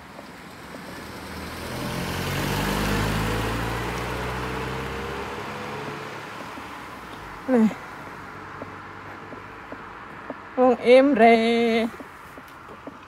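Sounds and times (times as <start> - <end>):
car driving past: 0.0 - 10.6.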